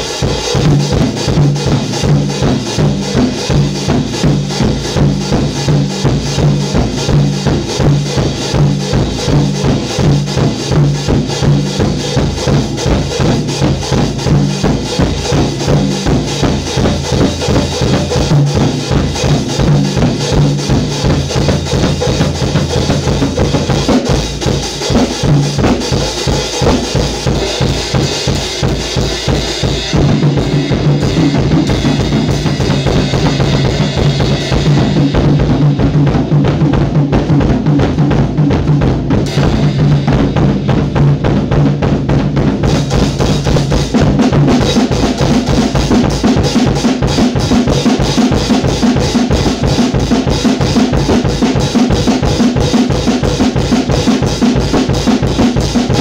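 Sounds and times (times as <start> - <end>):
fast drum solo: 0.0 - 56.0.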